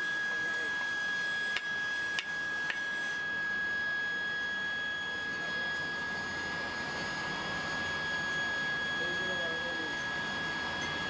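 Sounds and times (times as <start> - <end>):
constant high whine: 0.0 - 11.0.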